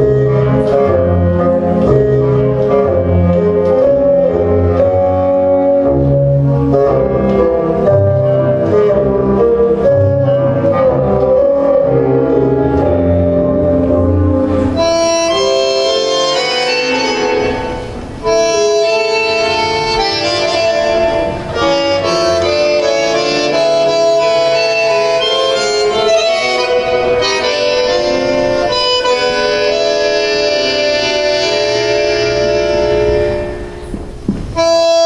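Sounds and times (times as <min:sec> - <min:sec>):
tango music with held reed notes: 0:00.0 - 0:35.0.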